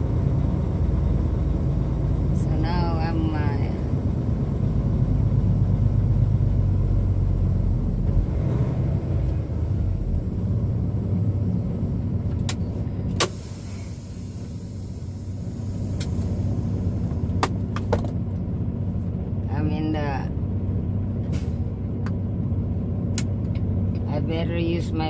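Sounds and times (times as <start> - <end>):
truck diesel engine rumbling: 0.0 - 25.0.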